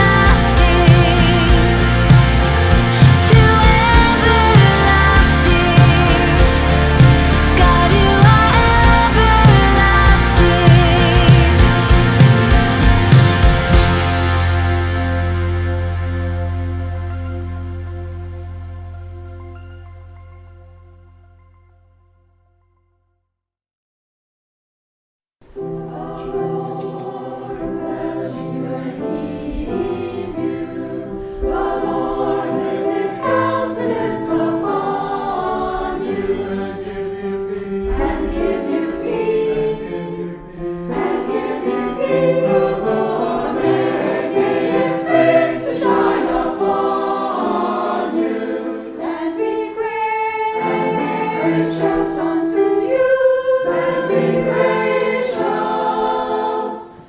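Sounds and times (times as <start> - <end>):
choir singing: 0.0 - 17.2, 25.5 - 57.0.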